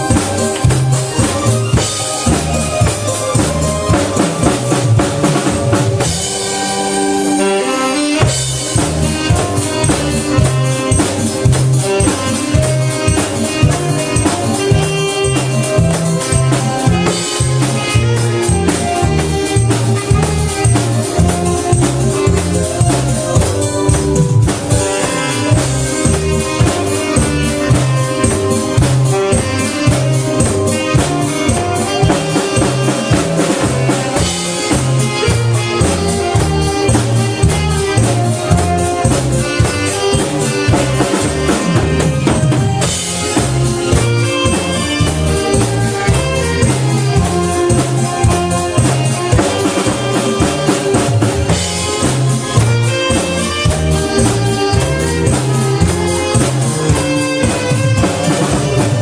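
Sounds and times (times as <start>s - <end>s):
drum kit beat: 0.0s - 59.0s
saxophone melody: 0.0s - 59.0s.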